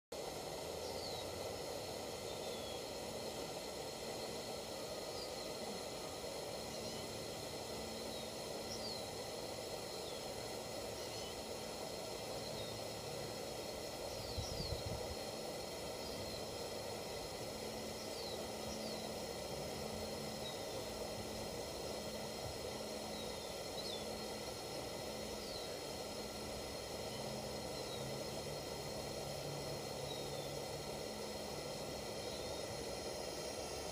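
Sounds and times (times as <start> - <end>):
pressure lantern hissing: 0.1 - 33.9.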